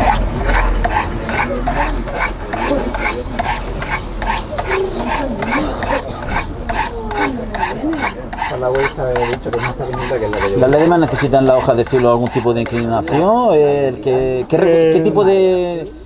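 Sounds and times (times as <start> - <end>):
blade scraping on ceramic rods: 0.0 - 14.2.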